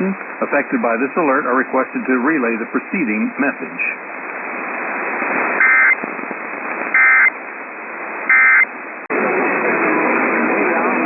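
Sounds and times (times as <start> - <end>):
broadcast audio: 0.0 - 11.0
radio hiss: 0.0 - 11.0.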